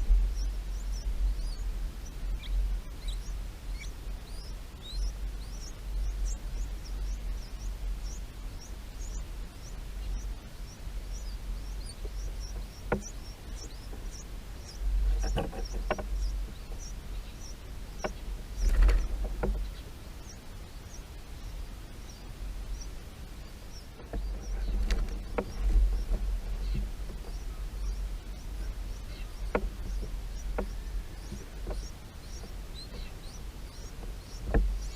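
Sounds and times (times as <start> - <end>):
low wind-like rumble: 0.0 - 34.9
small bird chirping: 0.0 - 34.9.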